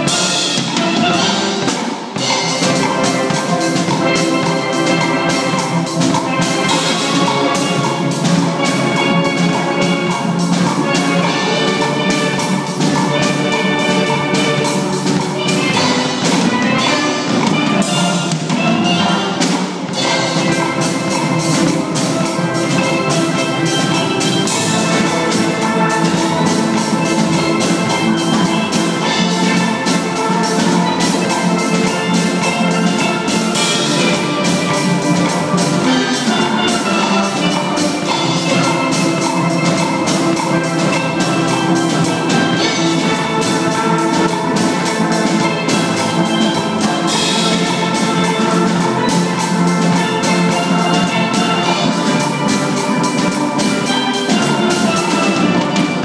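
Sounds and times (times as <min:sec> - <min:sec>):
steel orchestra playing: 0:00.0 - 0:56.0.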